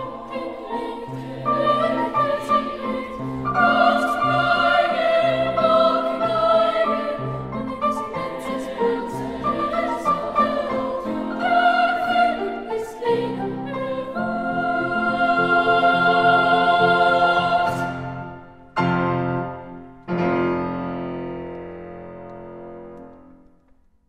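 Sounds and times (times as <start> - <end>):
choir singing with orchestra: 0.0 - 19.7.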